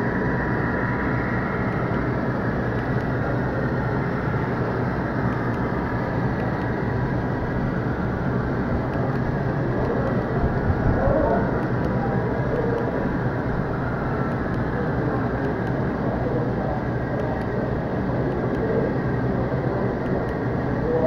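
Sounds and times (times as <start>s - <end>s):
faint ticking over rails: 1.5s - 21.0s.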